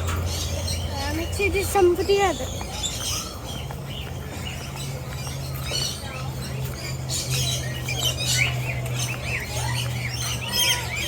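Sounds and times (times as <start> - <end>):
small birds chirping and squawking: 0.0 - 11.0.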